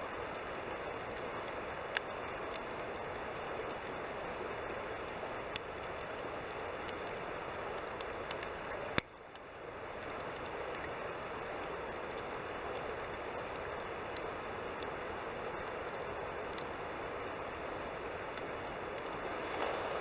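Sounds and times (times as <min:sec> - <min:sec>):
campfire hissing and crackling: 0:00.0 - 0:20.0.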